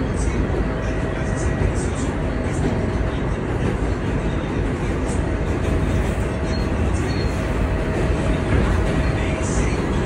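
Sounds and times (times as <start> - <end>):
subway train wheels rumbling: 0.0 - 10.0.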